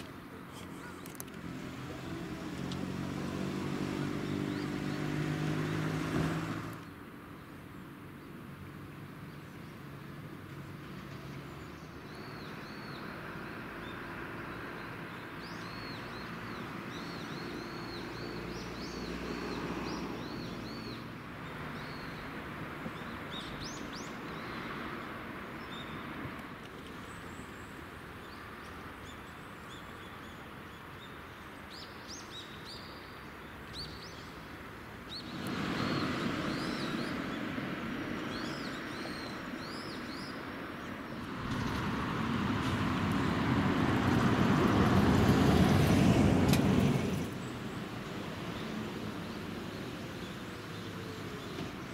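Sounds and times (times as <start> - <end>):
steady outdoor rushing noise: 0.0 - 28.2, 33.2 - 51.9
small birds chirping: 0.0 - 42.3, 47.1 - 51.9.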